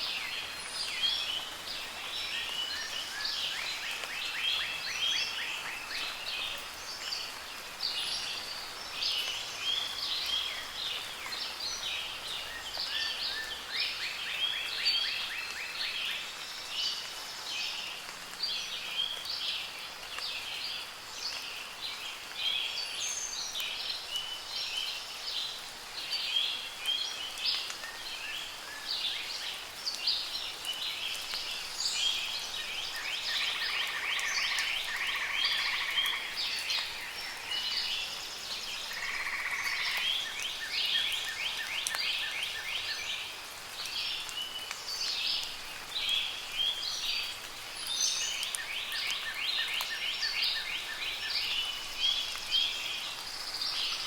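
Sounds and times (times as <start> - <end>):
soft rain: 0.0 - 54.0
songbirds singing: 0.0 - 54.0.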